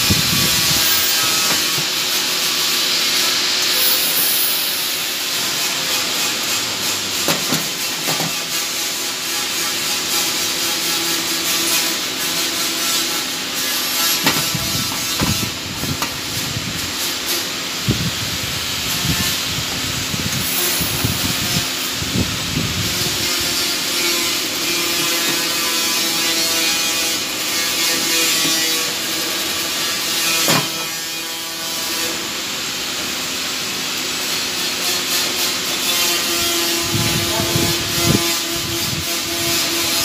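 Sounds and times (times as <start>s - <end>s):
power tool grinding metal: 0.0s - 40.0s.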